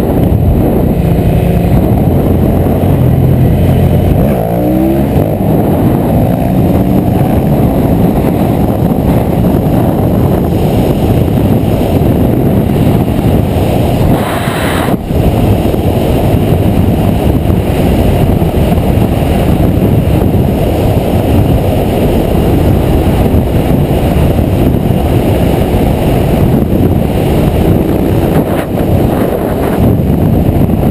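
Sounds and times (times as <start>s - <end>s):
motorcycle engine running: 0.0s - 30.9s
wind rushing on microphone: 0.0s - 30.9s.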